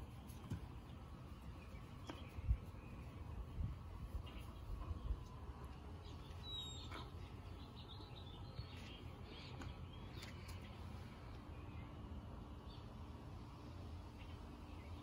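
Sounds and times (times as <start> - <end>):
faint birds chirping: 0.0 - 15.0
low background rumble: 0.0 - 15.0.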